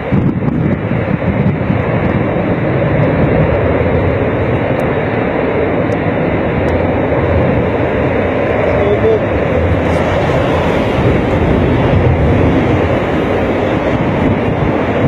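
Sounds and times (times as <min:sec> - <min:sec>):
aircraft engines running: 0:00.0 - 0:15.0.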